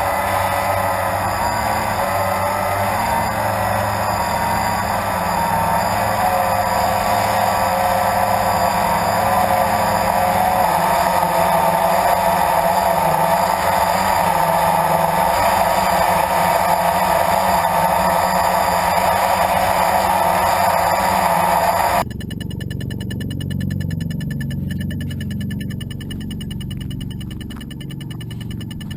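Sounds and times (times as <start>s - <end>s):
quadcopter motors whining: 0.0s - 28.9s.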